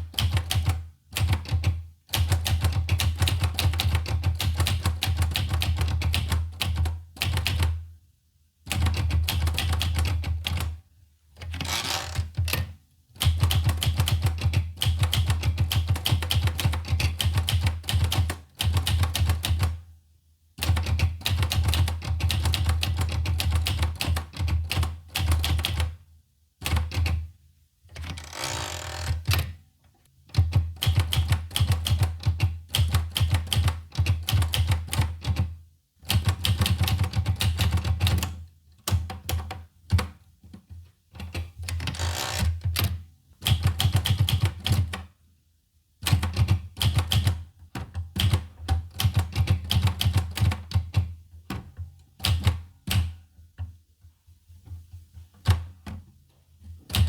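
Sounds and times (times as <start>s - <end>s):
manual typewriter keystrokes: 0.0s - 7.8s, 8.7s - 10.8s, 11.4s - 19.8s, 20.6s - 26.0s, 26.6s - 27.3s, 27.9s - 29.6s, 30.3s - 40.2s, 41.2s - 45.1s, 46.0s - 53.2s.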